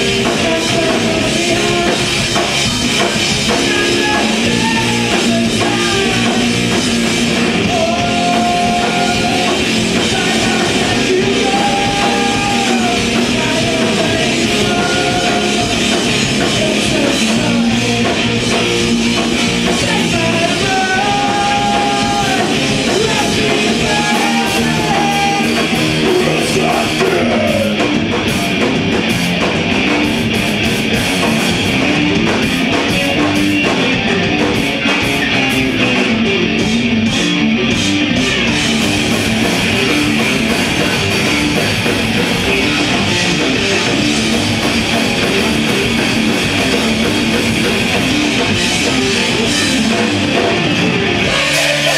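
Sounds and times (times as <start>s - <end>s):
metal band playing loudly: 0.0s - 51.9s.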